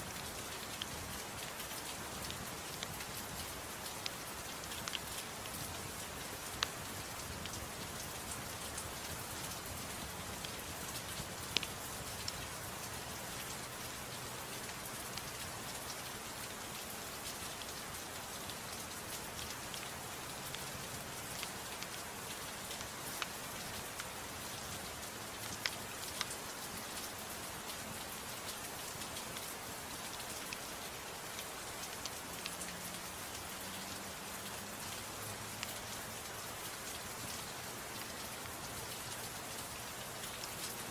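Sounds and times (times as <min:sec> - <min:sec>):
soft steady rain: 0:00.0 - 0:40.9.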